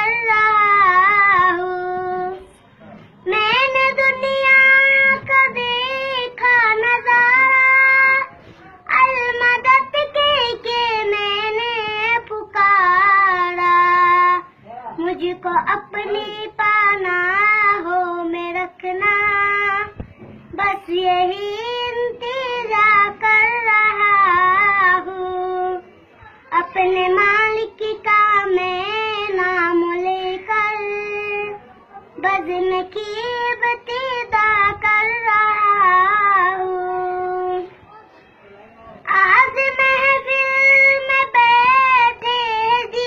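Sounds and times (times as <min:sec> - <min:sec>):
child singing: 0:00.0 - 0:02.6, 0:03.2 - 0:37.8, 0:39.0 - 0:43.0.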